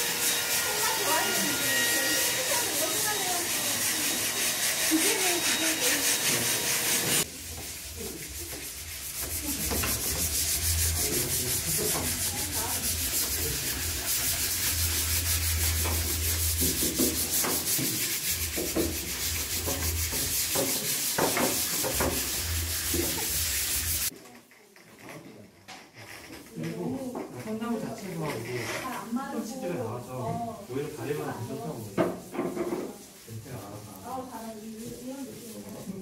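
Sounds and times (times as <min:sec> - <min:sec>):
sandpaper rubbing on wood: 0:00.0 - 0:24.1, 0:30.7 - 0:36.0.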